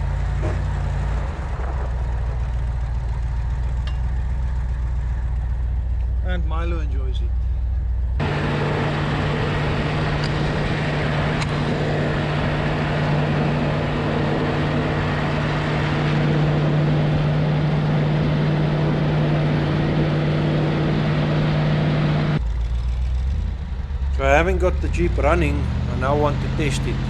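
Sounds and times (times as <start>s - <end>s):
wind and road noise: 0.0s - 6.2s, 7.4s - 27.0s
car engine hum: 0.0s - 27.0s.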